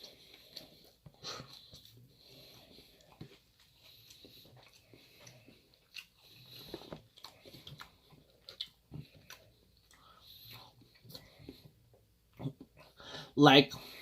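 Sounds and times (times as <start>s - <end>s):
person chewing food: 0.0s - 13.1s.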